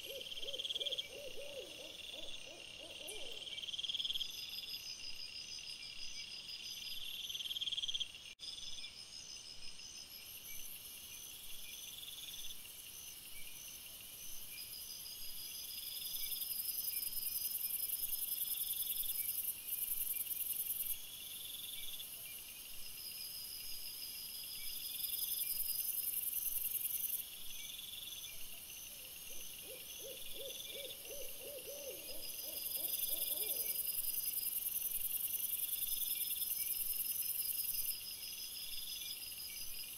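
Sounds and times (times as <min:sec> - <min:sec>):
night insects chirring: 0:00.0 - 0:39.9.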